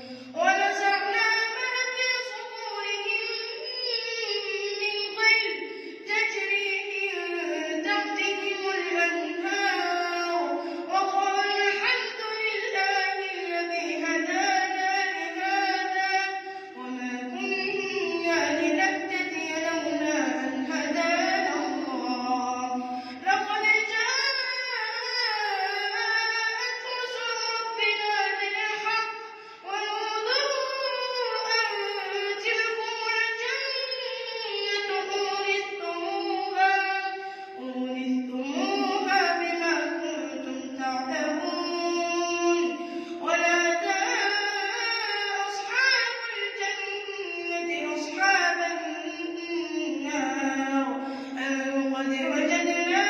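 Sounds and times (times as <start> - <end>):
child reciting melodically: 0.0 - 53.0.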